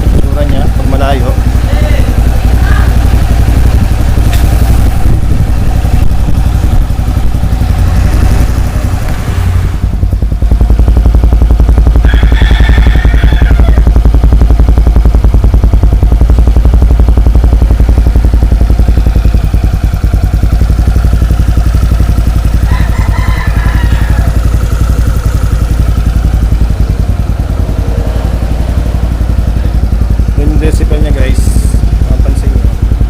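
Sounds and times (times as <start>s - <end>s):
scooter engine idling: 0.0s - 33.0s.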